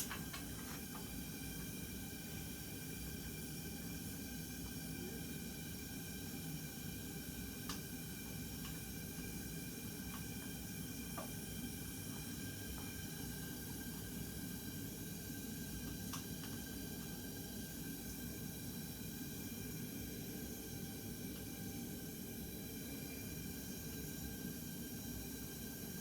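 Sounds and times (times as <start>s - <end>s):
room noise hum and hiss: 0.0s - 26.0s.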